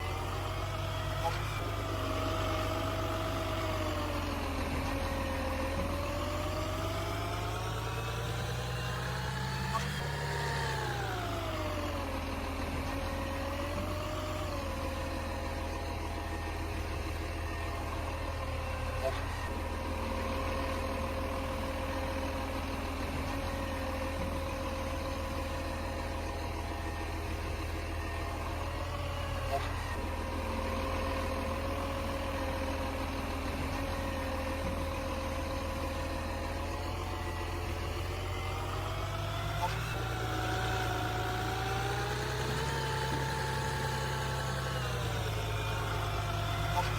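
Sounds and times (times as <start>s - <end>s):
garbage truck engine running: 0.0s - 46.9s.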